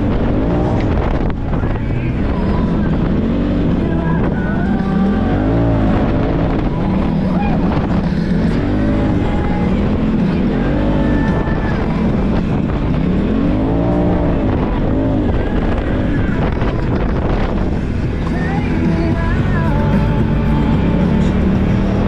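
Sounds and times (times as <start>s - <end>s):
wind rushing: 0.0s - 19.3s
utv engine revving: 0.0s - 22.0s.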